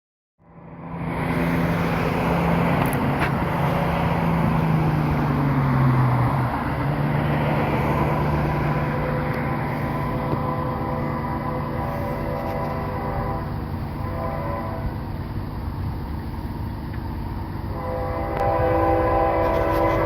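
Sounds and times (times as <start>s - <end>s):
diesel locomotive engine drone: 0.4s - 20.0s.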